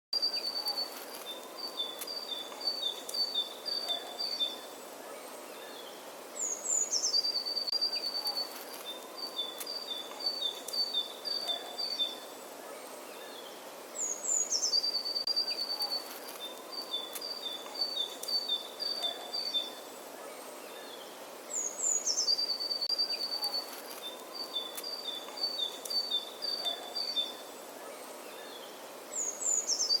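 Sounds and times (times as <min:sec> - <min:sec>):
bird singing: 0:00.2 - 0:30.0
steady background hiss: 0:00.2 - 0:30.0.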